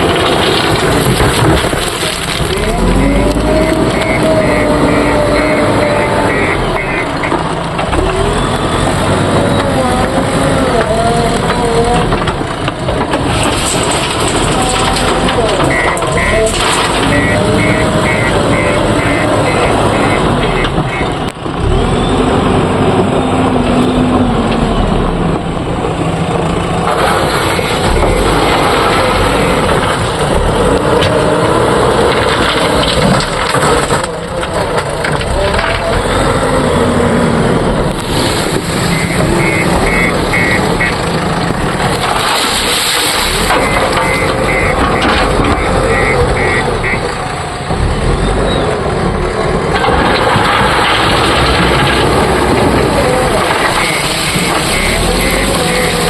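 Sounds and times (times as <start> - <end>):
heavy diesel engine revving: 0.0 - 56.0.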